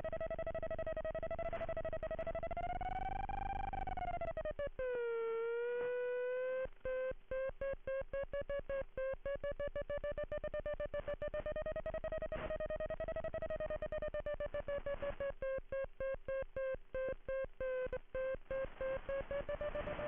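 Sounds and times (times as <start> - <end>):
electronic variometer tone: 0.0 - 20.0
rapid electronic beeps: 0.0 - 20.0.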